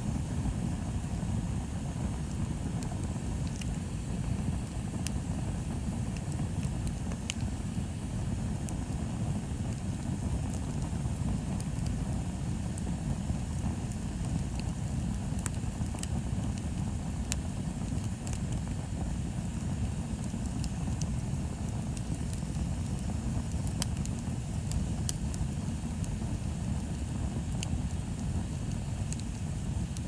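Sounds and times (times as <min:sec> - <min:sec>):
bonfire rumbling: 0:00.0 - 0:30.0
burning wood crackling and popping: 0:00.0 - 0:30.0.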